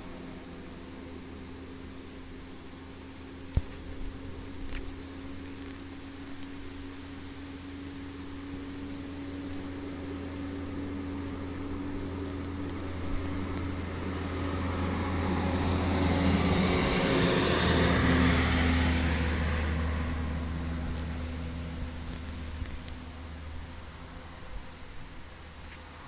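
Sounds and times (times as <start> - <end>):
road vehicle passing: 0.0 - 26.0
steady low hum: 0.0 - 26.0.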